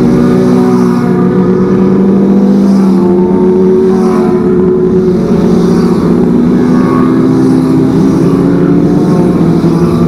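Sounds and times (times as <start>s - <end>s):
motorcycle engine through racing exhaust: 0.0s - 10.0s.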